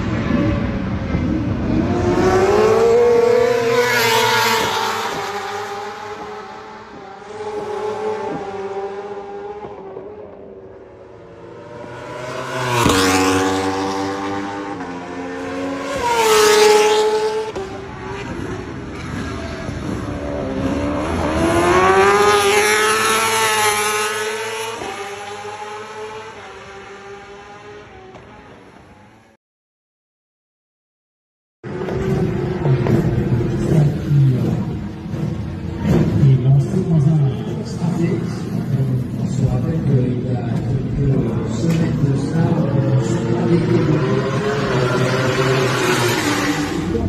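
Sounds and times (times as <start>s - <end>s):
racing motorcycles passing: 0.0s - 29.2s, 31.7s - 47.0s.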